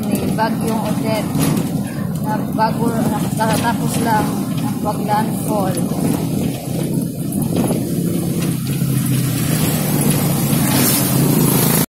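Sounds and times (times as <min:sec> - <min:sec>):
road and wind noise: 0:00.0 - 0:11.9
vehicle engine running: 0:00.0 - 0:11.9.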